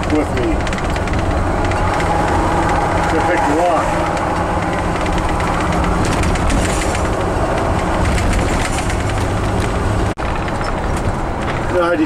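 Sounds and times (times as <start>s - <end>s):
small rattles and clicks: 0.0s - 3.4s, 4.0s - 12.0s
engine and road rumble: 0.0s - 12.0s.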